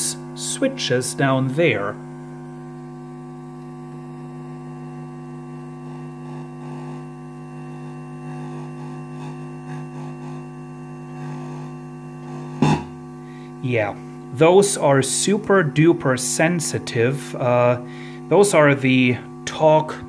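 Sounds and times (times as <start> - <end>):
mains hum: 0.0 - 20.0.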